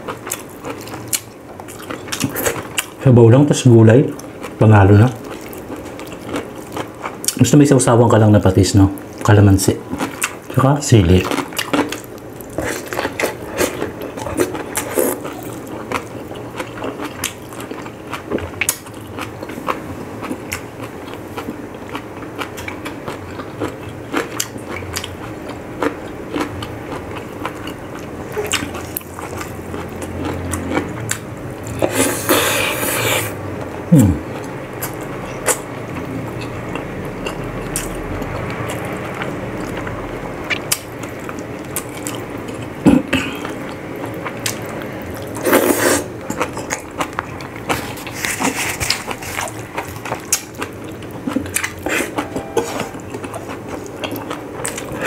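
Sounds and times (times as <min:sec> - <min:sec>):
person chewing food: 0:00.0 - 0:03.0, 0:03.9 - 0:55.0.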